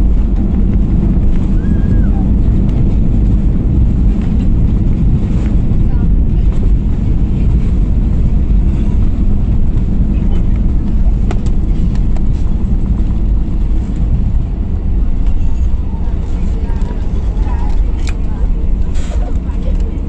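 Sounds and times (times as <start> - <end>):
airliner engines rumbling: 0.0 - 20.0.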